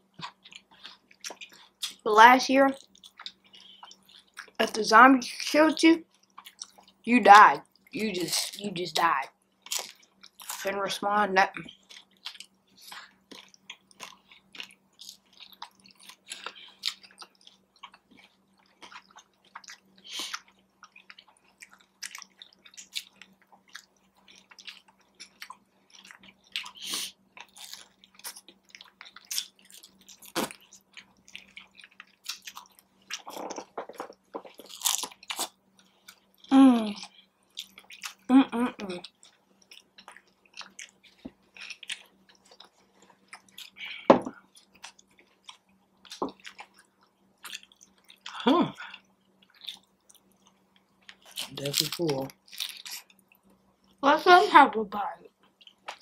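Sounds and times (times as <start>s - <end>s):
faint hum: 0.0s - 56.0s
crunchy chewing: 0.1s - 2.0s, 2.8s - 4.6s, 6.1s - 7.0s, 9.6s - 10.7s, 11.6s - 38.3s, 39.0s - 54.0s, 55.3s - 56.0s.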